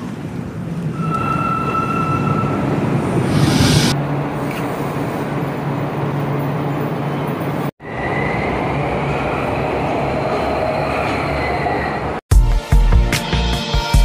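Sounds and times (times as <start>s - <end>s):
train rumble and hum: 0.0s - 12.2s.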